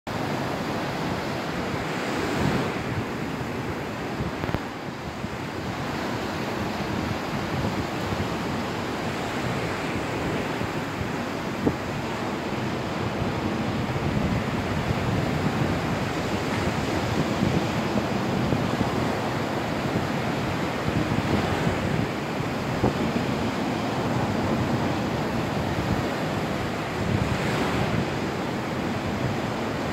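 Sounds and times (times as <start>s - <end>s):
waves washing onto sandy beach: 0.1s - 29.9s
wind buffeting microphone: 0.2s - 29.9s.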